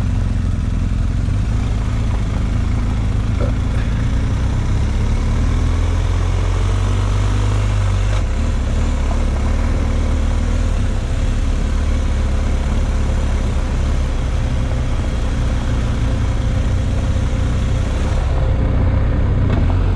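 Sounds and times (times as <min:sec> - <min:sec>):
vehicle engine running steadily: 0:00.0 - 0:19.9.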